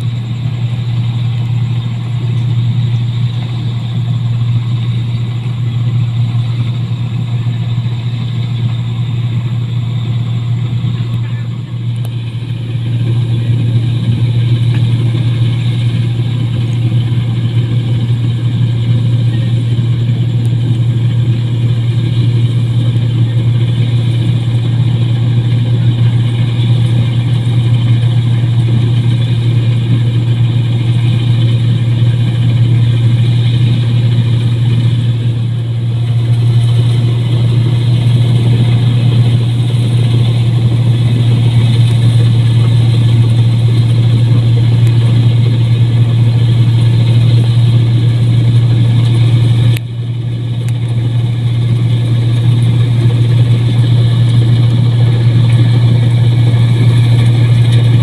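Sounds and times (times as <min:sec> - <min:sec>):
combine harvester engine humming: 0:00.0 - 0:58.0.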